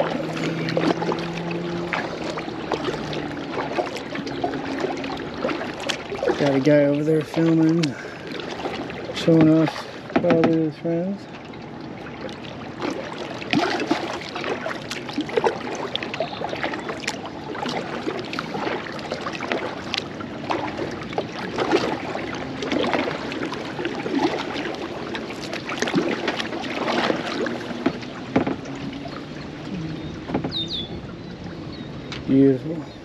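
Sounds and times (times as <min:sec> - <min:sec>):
paddle splashing in water: 0:00.0 - 0:33.0
water swishing along hull: 0:00.0 - 0:33.0.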